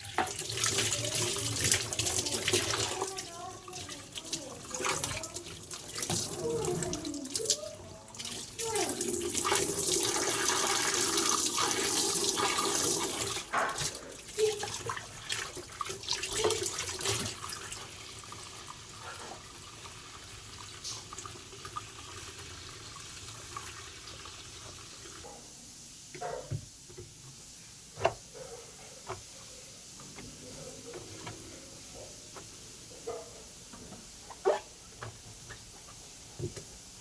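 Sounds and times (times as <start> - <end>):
running water: 0.0 - 37.0.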